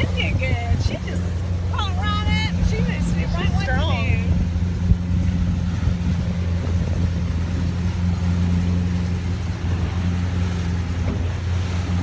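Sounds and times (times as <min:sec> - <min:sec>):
motorboat engine droning: 0:00.0 - 0:12.0
water noise: 0:00.0 - 0:12.0.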